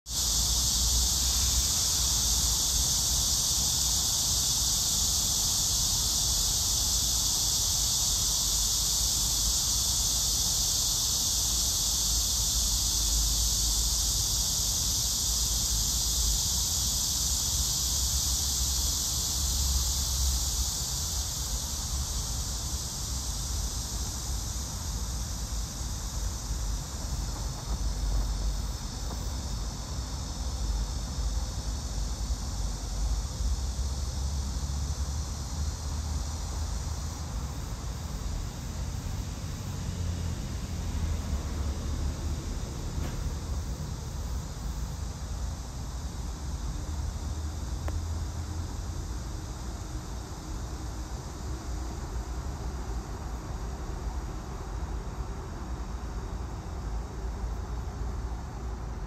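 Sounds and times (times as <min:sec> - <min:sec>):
insects chirring: 0:00.1 - 0:59.0.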